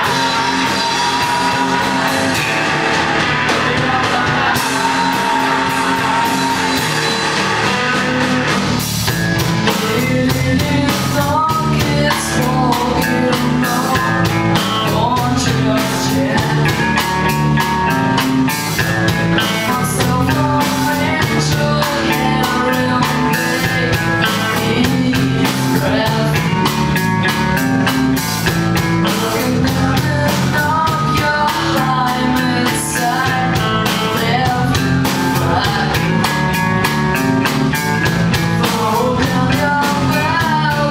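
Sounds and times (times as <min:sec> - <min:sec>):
person singing: 0:00.0 - 0:08.9, 0:09.6 - 0:18.0, 0:18.8 - 0:28.0, 0:29.0 - 0:37.5, 0:38.6 - 0:40.9
drum kit beat: 0:00.0 - 0:40.9
electric guitar: 0:00.0 - 0:40.9.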